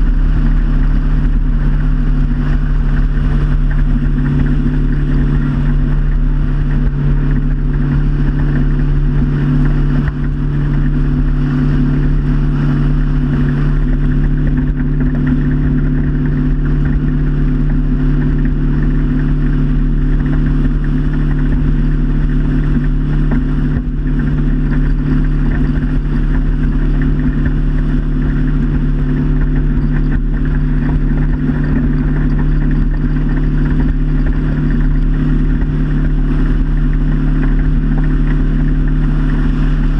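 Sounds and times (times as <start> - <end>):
motorboat engine drone: 0.0 - 39.9.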